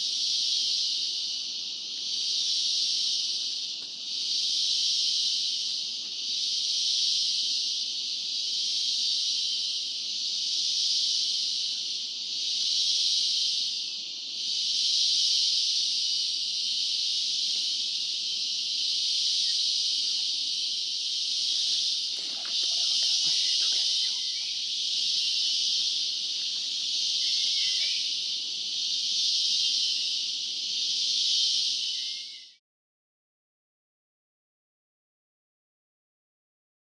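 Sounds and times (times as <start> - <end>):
insects droning: 0.0 - 32.6.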